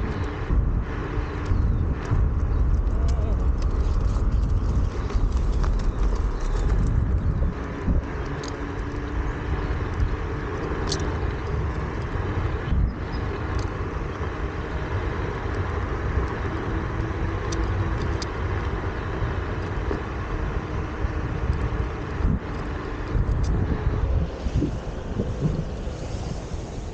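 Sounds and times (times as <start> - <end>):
wheel rolling over pavement: 0.0 - 26.9.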